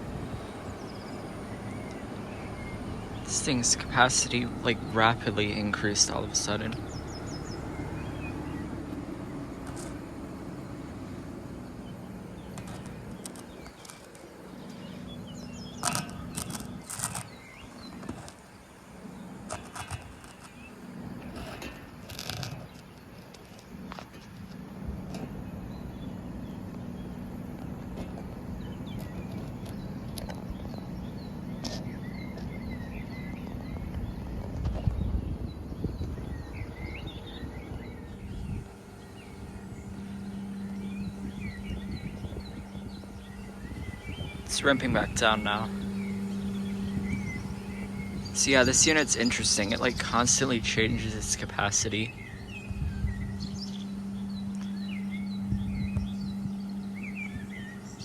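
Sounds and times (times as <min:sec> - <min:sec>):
bird chirps: 0:00.0 - 0:58.0
heat pump low hum: 0:00.0 - 0:58.0.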